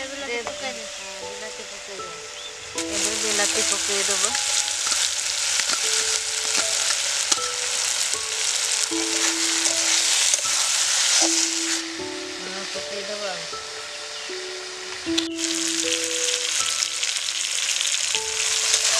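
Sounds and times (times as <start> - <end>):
soft background music: 0.0 - 18.9
spices frying in a pan: 0.0 - 18.9.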